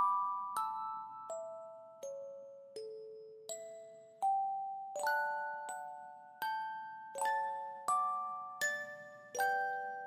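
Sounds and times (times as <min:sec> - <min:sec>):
gentle bell-like chords: 0:00.0 - 0:10.0.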